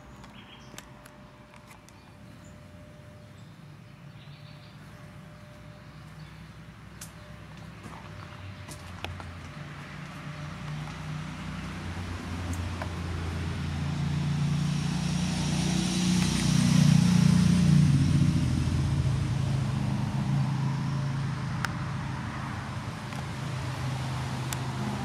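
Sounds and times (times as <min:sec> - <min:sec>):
vehicle engine passing: 0:04.4 - 0:25.0.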